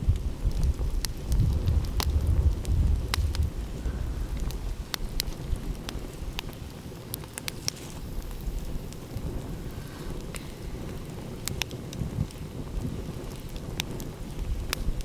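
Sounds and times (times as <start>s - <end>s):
wind: 0.0s - 15.0s
wood fire crackling and popping: 0.0s - 15.0s.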